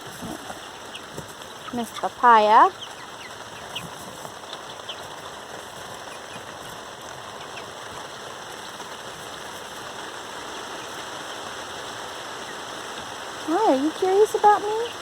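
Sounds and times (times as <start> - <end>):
chicks cheeping: 0.0 - 15.0
steady rain falling: 0.0 - 15.0.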